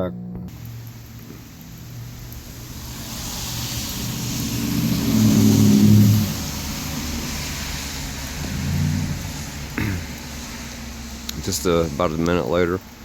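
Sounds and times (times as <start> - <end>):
car engine passing: 0.5 - 13.0
rain hissing: 0.5 - 13.0
tyres hissing on wet road: 0.5 - 13.0.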